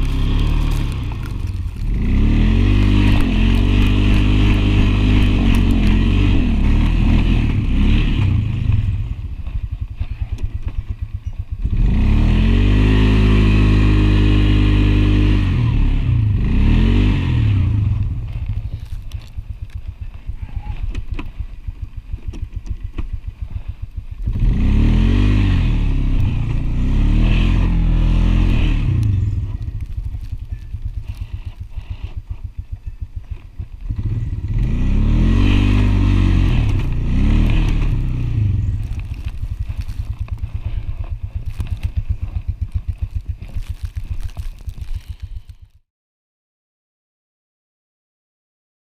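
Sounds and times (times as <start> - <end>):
atv engine idling and revving: 0.0 - 45.8.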